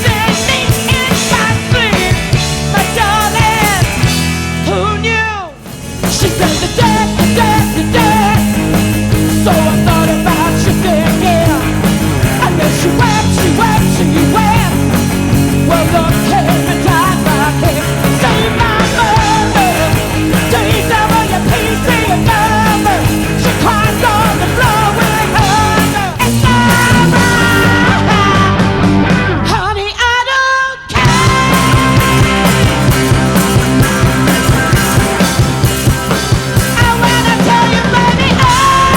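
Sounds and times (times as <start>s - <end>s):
live rock band playing: 0.0s - 30.2s, 30.8s - 38.9s.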